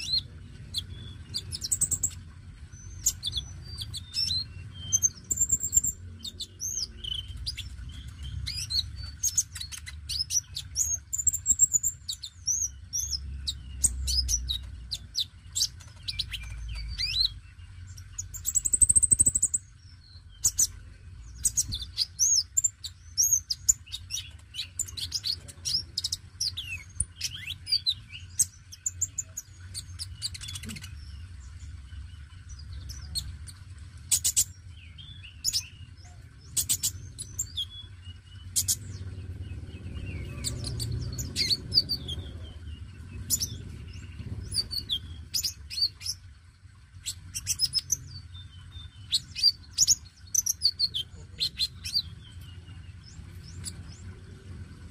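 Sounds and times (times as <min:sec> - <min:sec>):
sunbird singing high chirps: 0:00.0 - 0:46.3, 0:47.0 - 0:54.9.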